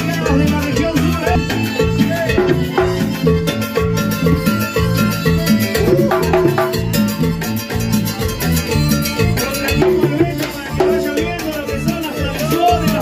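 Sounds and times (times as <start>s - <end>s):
live band dance music: 0.0s - 13.0s.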